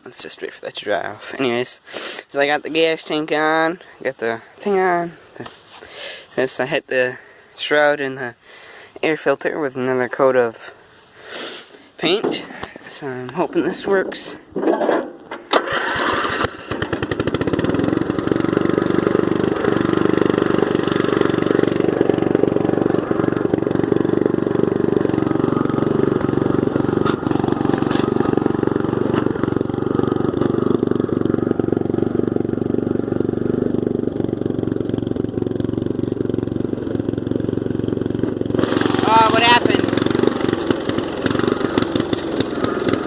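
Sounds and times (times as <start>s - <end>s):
riding mower engine starting: 0.0s - 43.0s.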